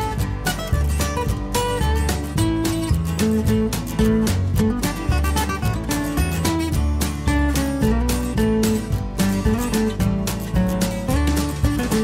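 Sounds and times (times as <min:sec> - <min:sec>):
bass line: 0:00.0 - 0:12.0
steady beat: 0:00.0 - 0:12.0
strummed acoustic guitar: 0:00.0 - 0:12.0.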